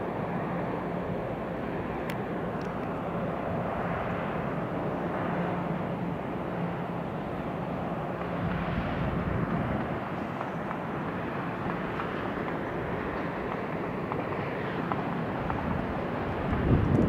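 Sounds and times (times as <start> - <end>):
distant diesel locomotives droning: 0.0 - 17.0.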